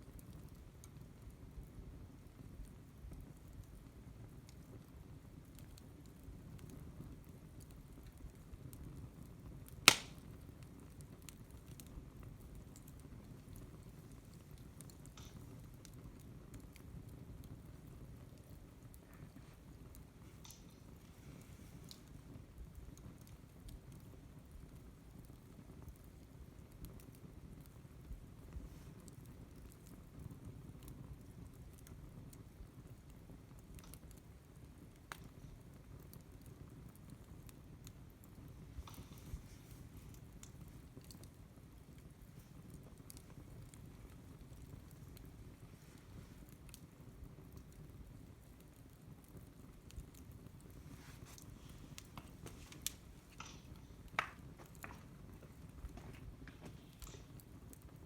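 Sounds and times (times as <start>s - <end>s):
campfire rumble: 0.0s - 58.0s
wood crackling and popping: 0.0s - 58.0s.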